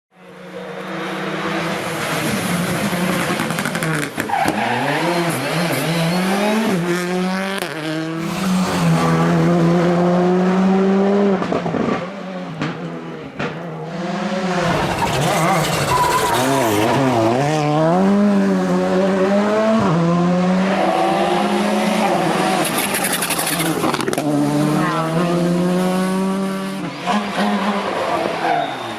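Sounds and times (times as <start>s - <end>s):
rally car engine revving: 0.5s - 28.9s.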